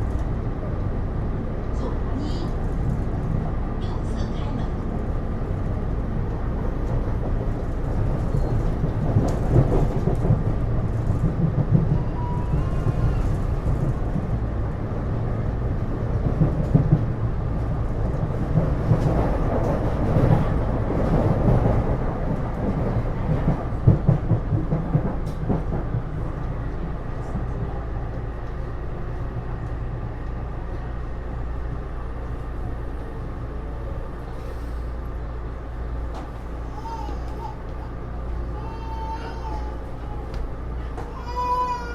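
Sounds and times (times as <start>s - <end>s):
metro car wheels rumbling on rail: 0.0s - 41.9s.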